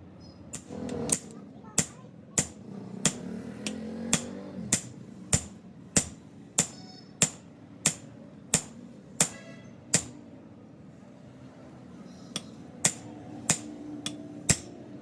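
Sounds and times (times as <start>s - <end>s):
hammer striking metal: 0.6s - 10.2s, 12.3s - 15.0s.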